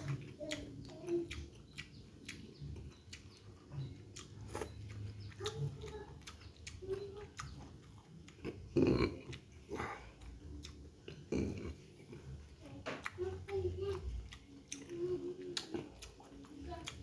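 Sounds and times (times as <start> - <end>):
person chewing and lip smacking: 0.0 - 17.0.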